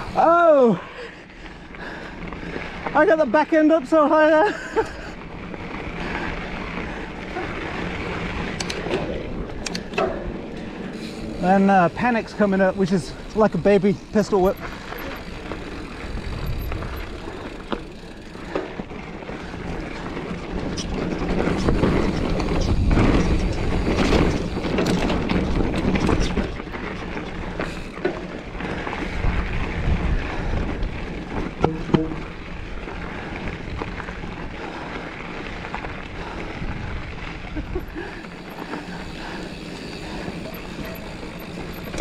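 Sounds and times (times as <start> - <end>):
bike clacking and rattling: 0.0 - 42.0
bike tyres on dirt and rock: 0.0 - 42.0.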